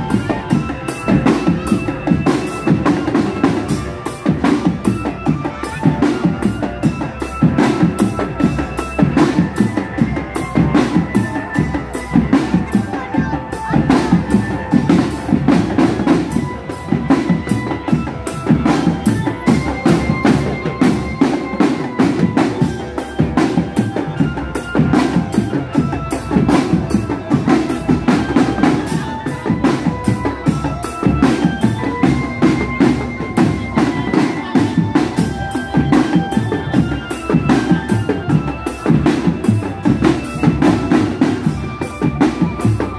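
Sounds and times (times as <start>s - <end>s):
bass and snare drums beating: 0.0s - 42.9s
marching drum band playing: 0.0s - 42.9s
melody of held notes: 0.0s - 42.9s.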